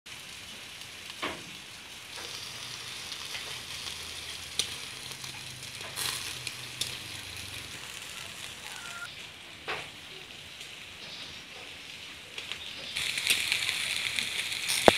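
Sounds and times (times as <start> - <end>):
meat sizzling on a grill: 0.1 - 14.9.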